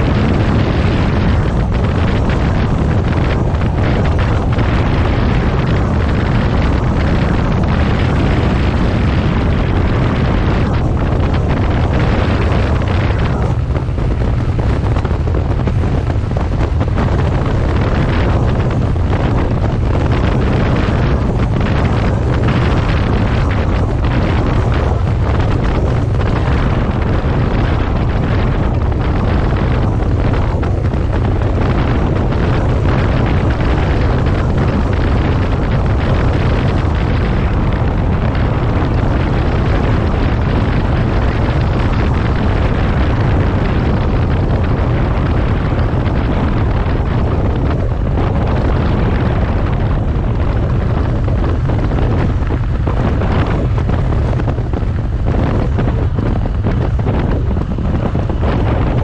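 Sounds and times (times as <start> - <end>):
motorcycle engine running: 0.0 - 59.0
wind rushing on microphone: 0.0 - 59.0.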